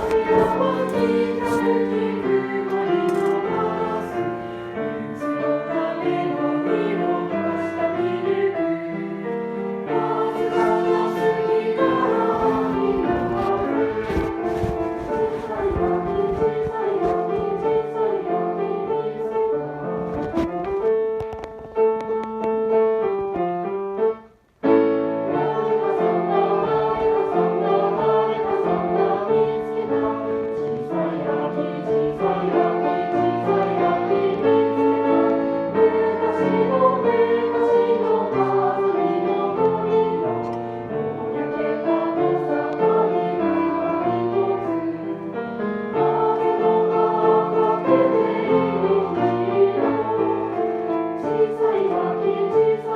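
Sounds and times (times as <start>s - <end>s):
choir singing: 0.0s - 19.8s, 25.1s - 52.9s
piano: 0.0s - 52.9s.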